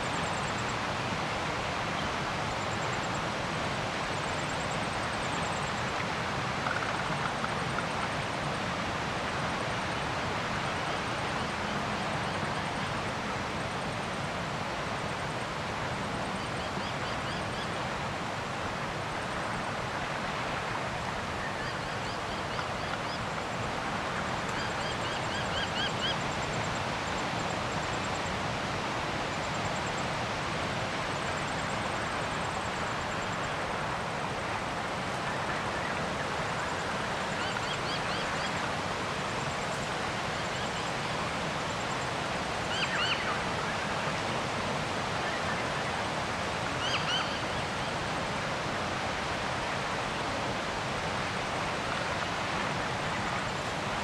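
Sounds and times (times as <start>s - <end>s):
steady rushing outdoor noise: 0.0s - 54.0s.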